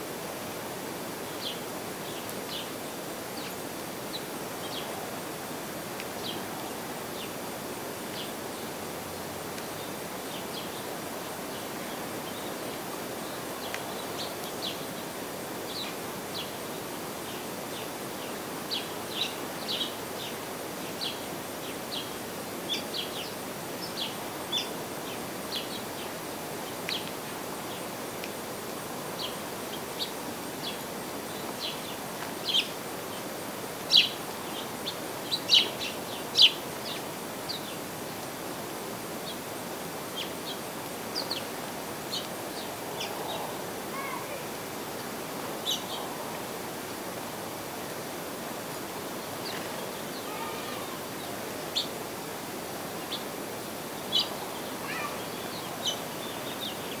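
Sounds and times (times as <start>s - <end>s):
steady background hiss: 0.0s - 57.0s
small songbirds chirping: 1.0s - 57.0s.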